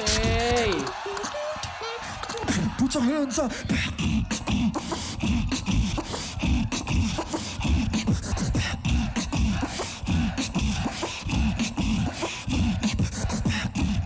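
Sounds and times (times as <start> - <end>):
beatboxing through a microphone: 0.0 - 14.0.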